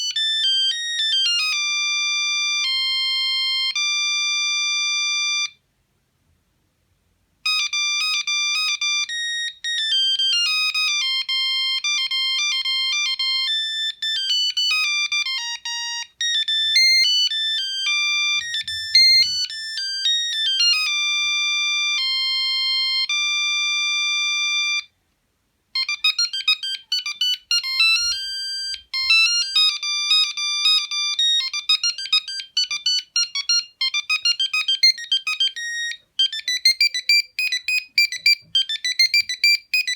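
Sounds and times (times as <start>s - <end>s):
phone ringtone beeping melody: 0.0s - 5.6s, 7.5s - 24.9s, 25.8s - 39.9s.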